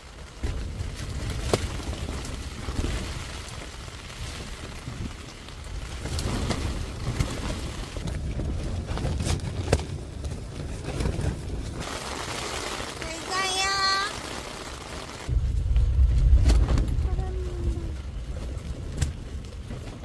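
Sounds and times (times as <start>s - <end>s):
rain hitting car: 0.0s - 8.8s, 9.7s - 20.0s
storm wind gusting against car: 0.0s - 20.0s.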